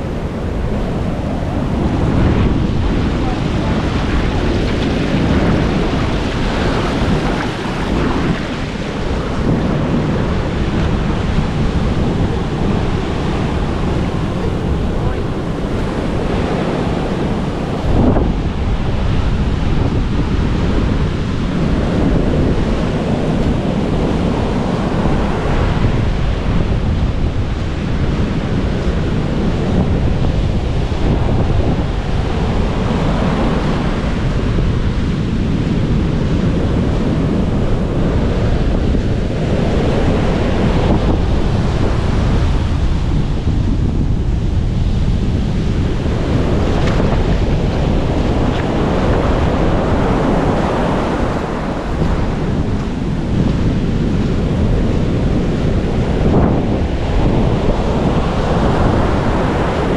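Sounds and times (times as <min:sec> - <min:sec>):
ocean waves breaking: 0:00.0 - 0:59.9
wind buffeting microphone: 0:00.0 - 0:59.9.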